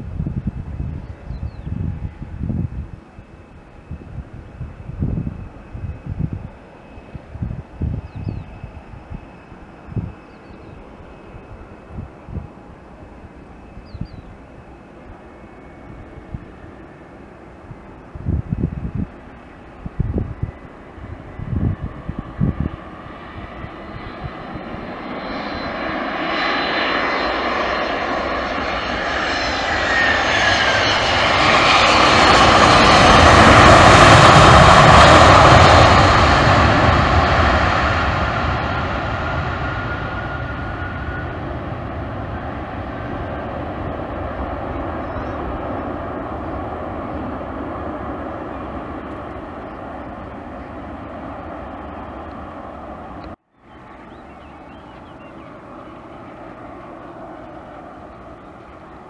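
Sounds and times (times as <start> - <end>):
high engine whine: 0.0 - 59.0
jet airliner engines landing: 0.0 - 59.0.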